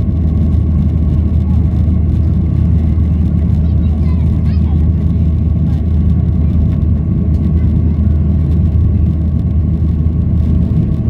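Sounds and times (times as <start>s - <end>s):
airplane cabin rumble: 0.0s - 11.0s
faint engine whine: 0.0s - 11.0s.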